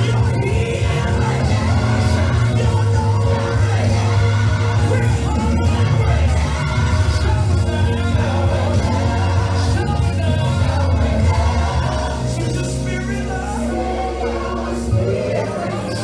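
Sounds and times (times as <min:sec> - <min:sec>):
bass and keyboard accompaniment: 0:00.0 - 0:16.0
gospel solo and choir singing: 0:00.0 - 0:16.0.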